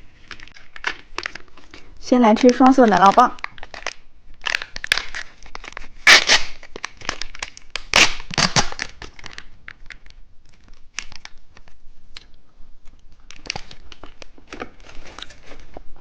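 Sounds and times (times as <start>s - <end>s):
plastic wrapper crinkling and tearing: 0.2s - 12.3s, 12.9s - 16.0s.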